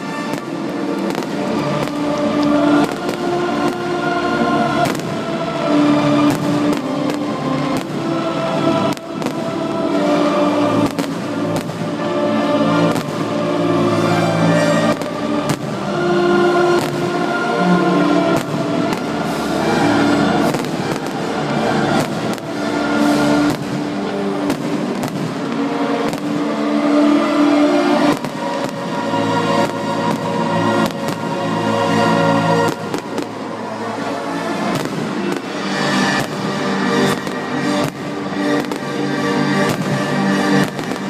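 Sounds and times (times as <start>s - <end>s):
fireworks bangs: 0.0s - 4.0s, 4.7s - 8.2s, 10.7s - 12.0s, 12.7s - 13.3s, 14.8s - 17.4s, 18.0s - 26.7s, 27.8s - 41.0s
loud music: 0.0s - 41.0s.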